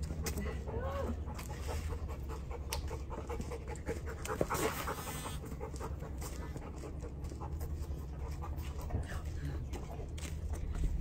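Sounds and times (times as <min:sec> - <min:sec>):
steady low rumble: 0:00.0 - 0:11.0
dog panting: 0:00.2 - 0:10.8.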